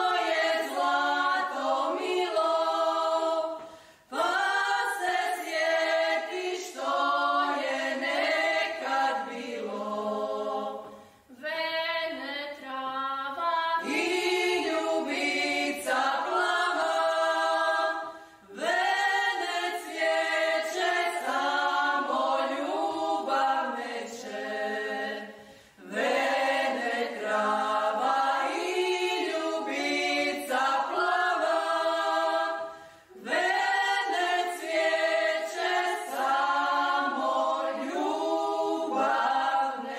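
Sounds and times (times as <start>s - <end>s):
choir singing unaccompanied: 0.0s - 11.0s, 13.3s - 39.9s.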